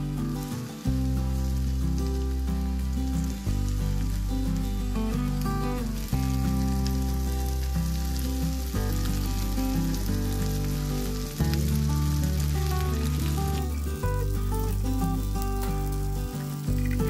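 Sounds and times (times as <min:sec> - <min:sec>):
background music low notes: 0:00.0 - 0:17.0
egg sizzling on griddle: 0:00.2 - 0:17.0.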